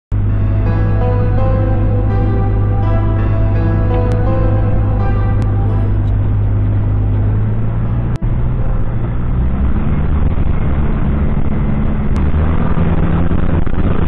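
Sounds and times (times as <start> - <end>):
propeller aircraft engine running: 0.1 - 14.0.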